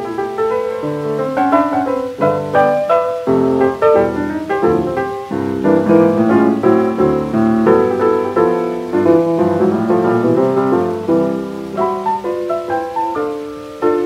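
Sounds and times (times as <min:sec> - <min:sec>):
record surface hiss: 0:00.0 - 0:14.0
solo jazz piano: 0:00.0 - 0:14.0.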